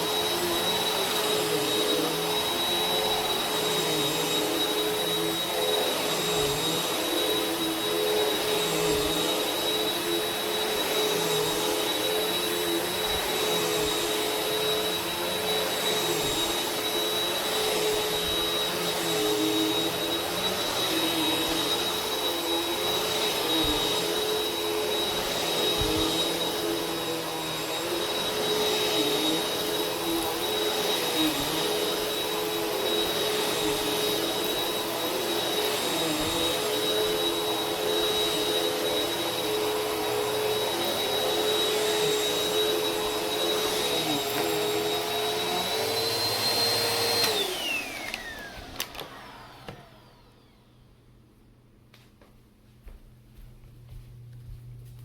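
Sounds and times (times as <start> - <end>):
vacuum cleaner motor whine: 0.0 - 51.3.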